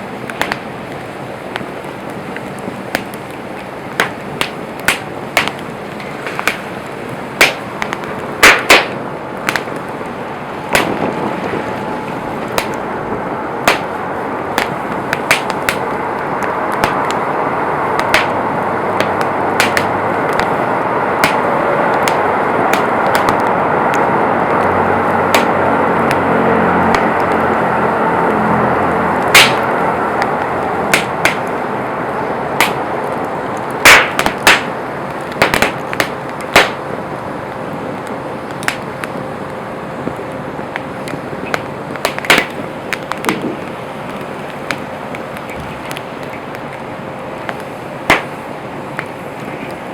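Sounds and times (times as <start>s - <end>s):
burning wood popping: 0.0s - 49.9s
campfire crackling: 0.0s - 49.9s
steady rushing noise: 0.0s - 49.9s.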